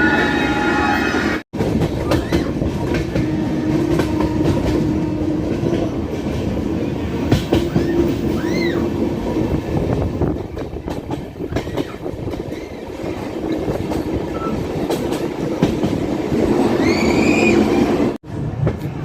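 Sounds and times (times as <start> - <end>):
train wheels clattering on rails: 1.6 - 19.0.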